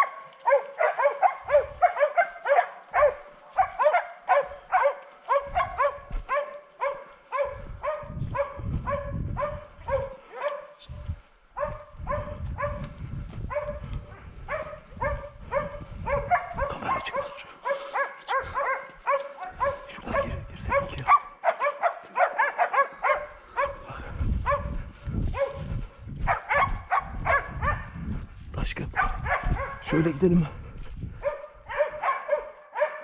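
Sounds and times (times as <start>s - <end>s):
dogs barking: 0.0s - 28.2s, 28.8s - 30.4s, 31.2s - 33.0s.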